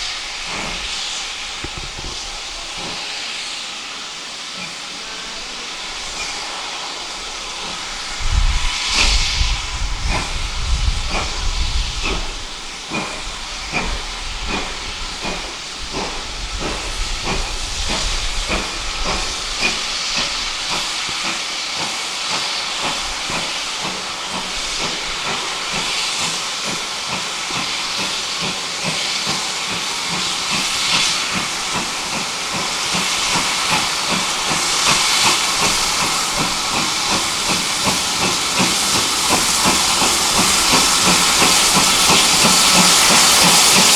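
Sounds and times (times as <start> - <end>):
steady hiss of steam: 0.0 - 43.9
steam locomotive exhaust beats: 0.0 - 43.9.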